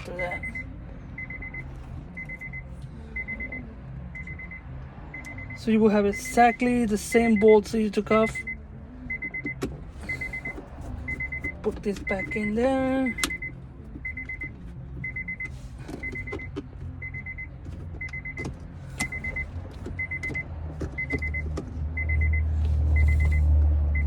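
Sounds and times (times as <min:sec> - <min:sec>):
car warning chime beeping: 0:00.0 - 0:24.0.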